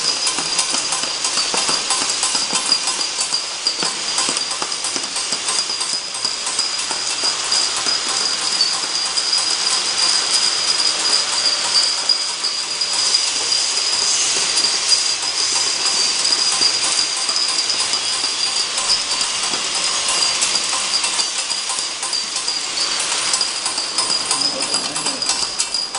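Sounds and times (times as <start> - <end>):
glass ampoules clattering on conveyor: 0.0 - 25.9
machine high-pitched whine: 0.0 - 25.9.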